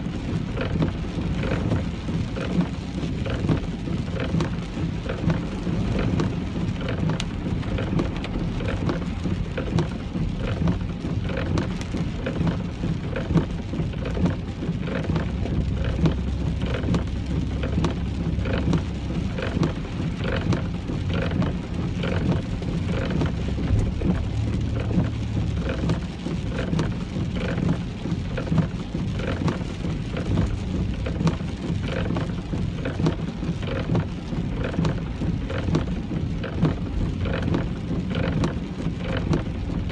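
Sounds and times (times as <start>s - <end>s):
car low rumble: 0.0s - 39.9s
rain drumming on car roof: 0.0s - 39.9s.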